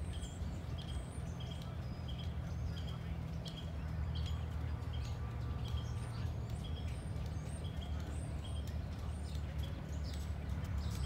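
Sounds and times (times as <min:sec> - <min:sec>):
birds chirping: 0:00.0 - 0:11.0
locomotive low rumble: 0:00.0 - 0:11.0.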